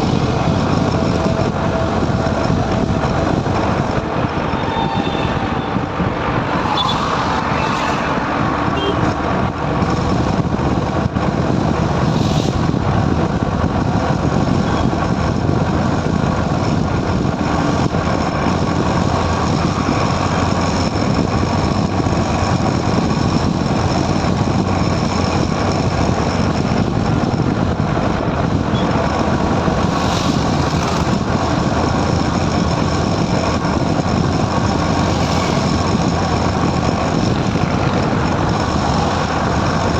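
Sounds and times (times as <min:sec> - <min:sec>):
motorcycle engine: 0:00.0 - 0:39.9
rushing wind: 0:00.0 - 0:39.9.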